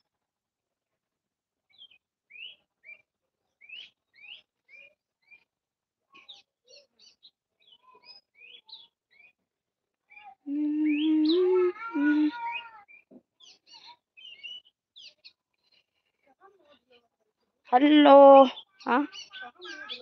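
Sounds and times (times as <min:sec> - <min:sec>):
small birds chirping: 0:01.7 - 0:05.5, 0:06.1 - 0:09.4, 0:10.0 - 0:16.9, 0:17.7 - 0:20.0.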